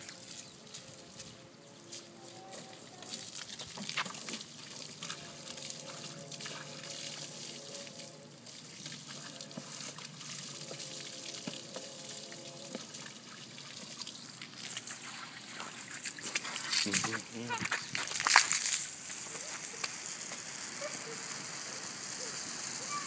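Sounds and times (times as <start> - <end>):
hose spraying water on concrete: 0.0 - 23.0.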